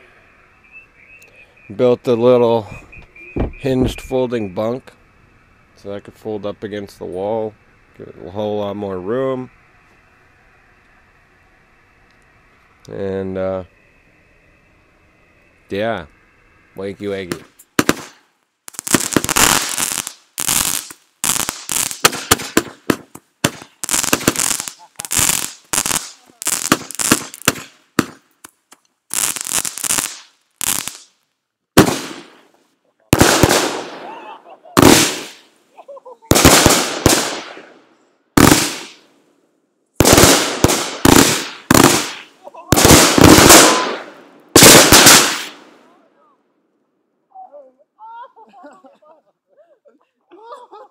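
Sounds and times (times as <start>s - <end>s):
fireworks fountain hissing crackle: 0.0s - 46.1s.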